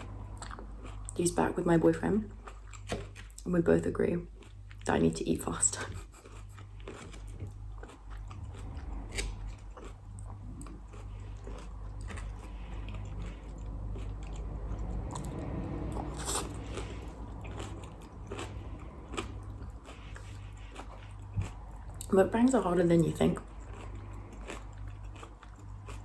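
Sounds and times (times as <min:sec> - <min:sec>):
low hum: 0:00.0 - 0:02.8, 0:06.8 - 0:25.8
chewing and crunching salad: 0:00.0 - 0:26.0.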